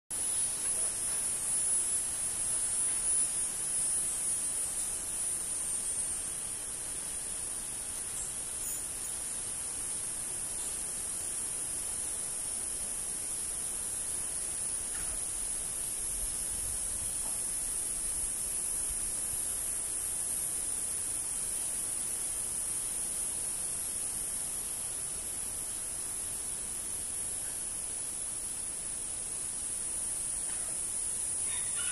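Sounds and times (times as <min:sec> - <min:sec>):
high-pitched insect drone: 0:00.1 - 0:31.9
soft background hiss: 0:00.1 - 0:31.9.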